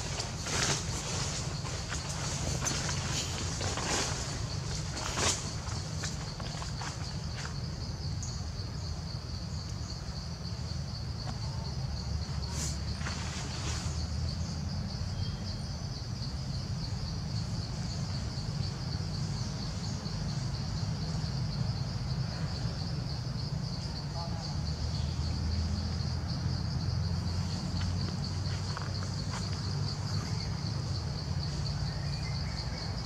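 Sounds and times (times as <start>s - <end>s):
insect chorus shrill drone: 0.0s - 33.0s.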